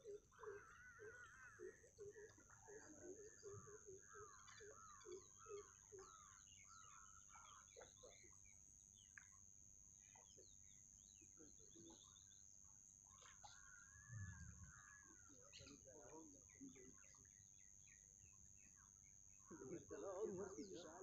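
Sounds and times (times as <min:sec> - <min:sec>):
bird calls and chirps: 0:00.0 - 0:21.0.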